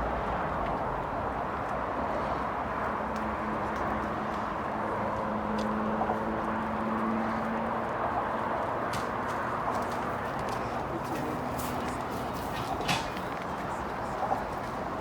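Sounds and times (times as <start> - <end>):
outdoor background: 0.0 - 15.0.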